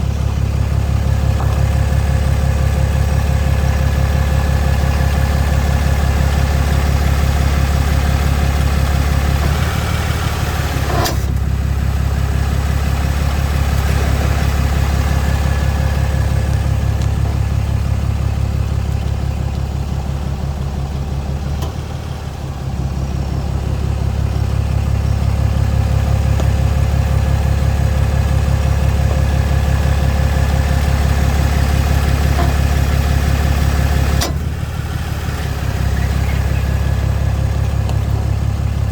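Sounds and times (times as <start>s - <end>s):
pickup engine running: 0.0s - 38.9s.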